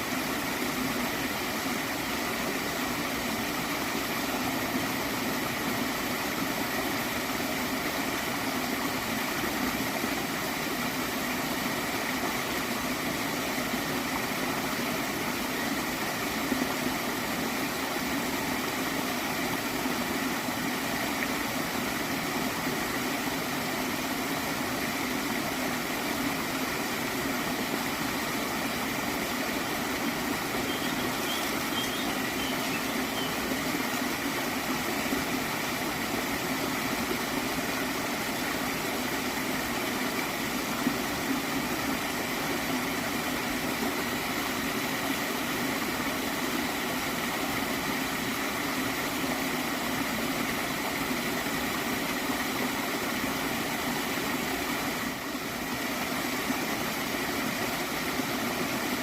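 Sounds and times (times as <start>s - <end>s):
stream water gurgling: 0.0s - 59.0s.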